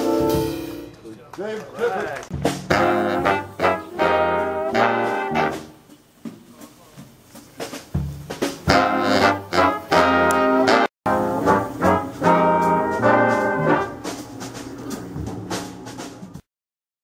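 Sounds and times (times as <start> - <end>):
small brass band playing: 0.0 - 1.2, 2.3 - 6.3, 7.2 - 16.4.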